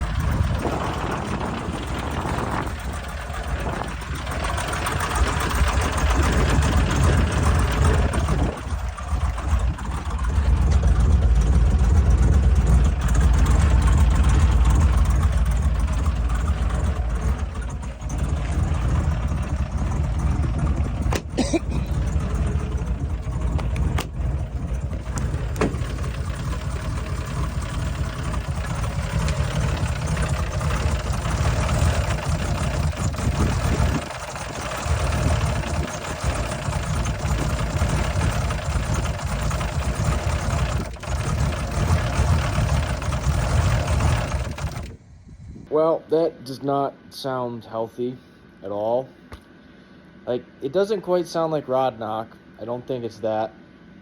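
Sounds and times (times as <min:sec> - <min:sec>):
car engine running rough: 0:00.0 - 0:47.0.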